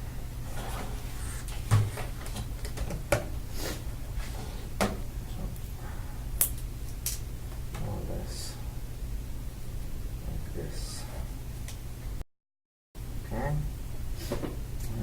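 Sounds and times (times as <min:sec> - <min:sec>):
steady low hum: 0:00.0 - 0:12.2, 0:13.0 - 0:15.0.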